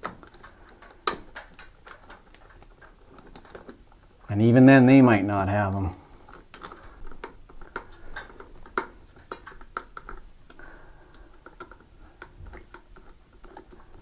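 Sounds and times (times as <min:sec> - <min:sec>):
plate and screws handled: 0:00.0 - 0:04.1, 0:06.1 - 0:14.0.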